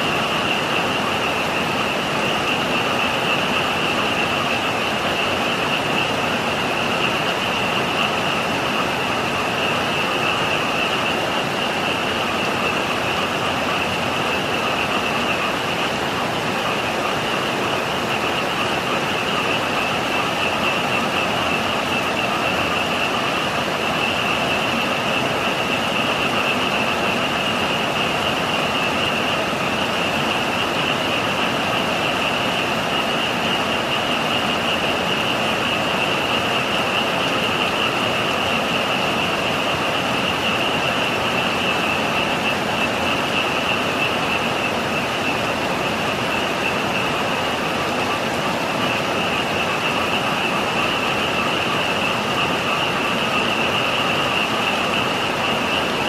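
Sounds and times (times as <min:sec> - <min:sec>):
frogs calling: 0:00.0 - 0:56.0
heavy rain rushing: 0:00.0 - 0:56.0.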